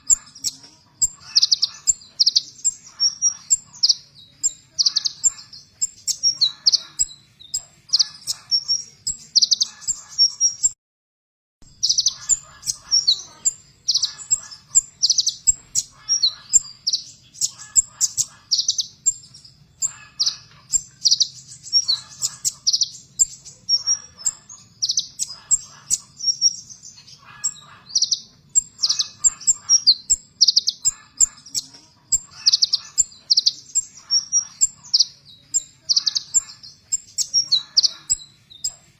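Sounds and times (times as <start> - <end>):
bird high-pitched chirps: 0.0 - 10.8, 11.6 - 38.9.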